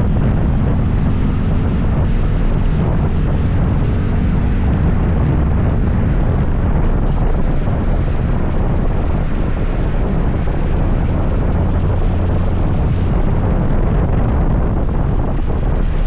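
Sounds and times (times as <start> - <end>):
road noise: 0.0 - 16.0
wind rumble on microphone: 0.0 - 16.0.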